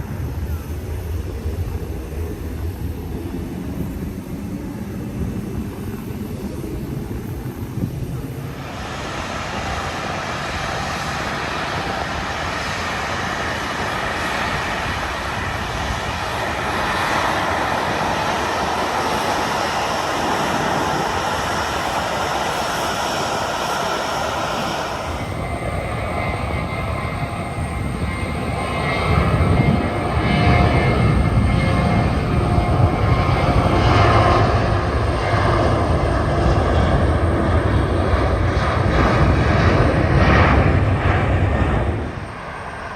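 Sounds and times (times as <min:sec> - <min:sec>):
heavy low rumble: 0:00.0 - 0:34.9
jet engines rushing: 0:00.0 - 0:42.9.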